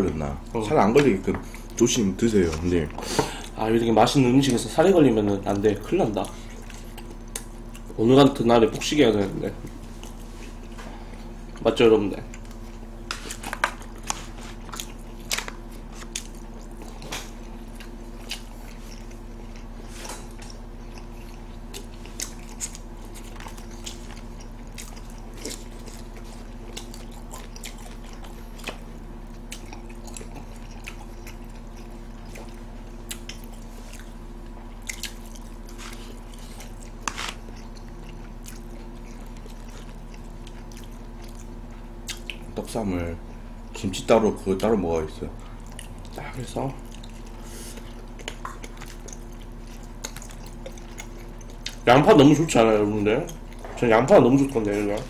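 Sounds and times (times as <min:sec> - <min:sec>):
background hum: 0:00.0 - 0:55.0
chewing and biting food: 0:00.1 - 0:44.8, 0:45.4 - 0:55.0.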